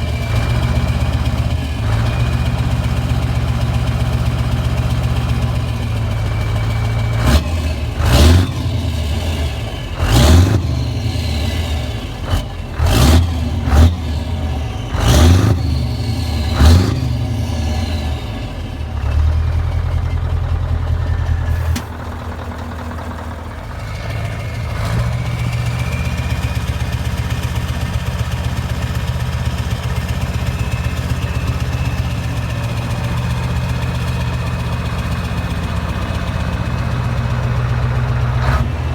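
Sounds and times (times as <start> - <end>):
truck diesel engine idling and revving: 0.0 - 38.9.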